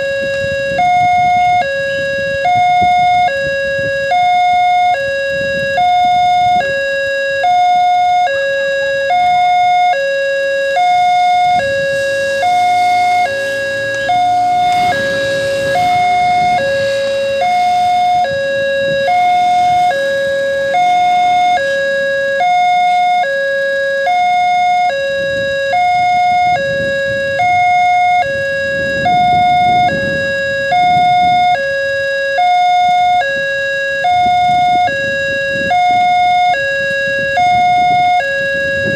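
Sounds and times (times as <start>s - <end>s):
level crossing two-tone alarm: 0.0s - 38.9s.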